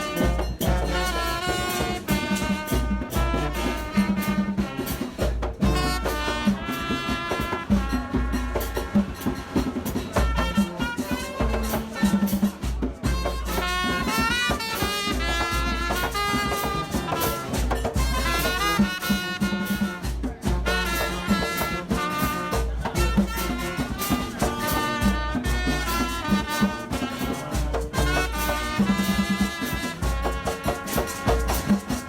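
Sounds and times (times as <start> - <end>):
brass melody over bass and beat: 0.0 - 32.0.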